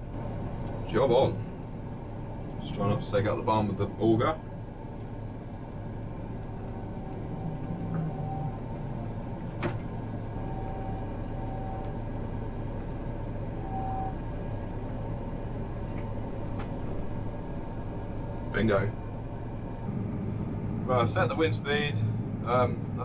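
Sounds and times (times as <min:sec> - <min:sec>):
engine low drone: 0:00.0 - 0:23.0.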